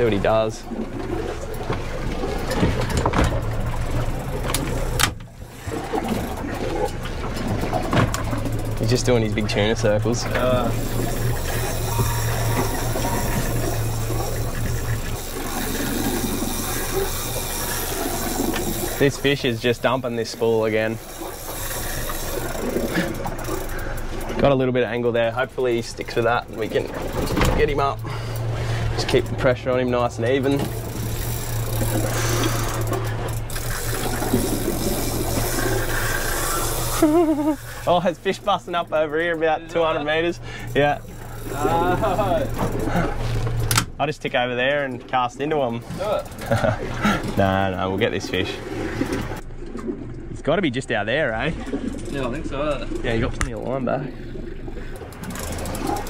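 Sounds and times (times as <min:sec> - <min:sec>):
boat engine running: 0:00.0 - 0:56.0
water washing past hull: 0:00.0 - 0:56.0.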